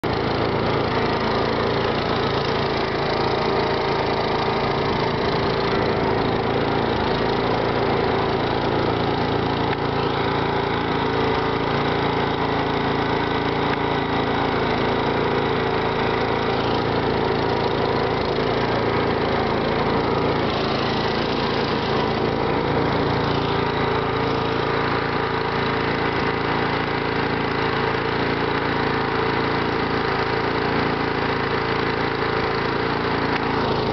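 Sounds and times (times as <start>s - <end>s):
motor running steadily: 0.0s - 33.9s.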